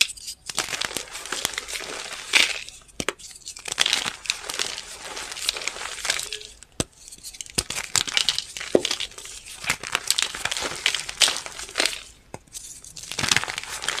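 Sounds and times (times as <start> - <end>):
chalk crunching and crumbling: 0.0 - 14.0.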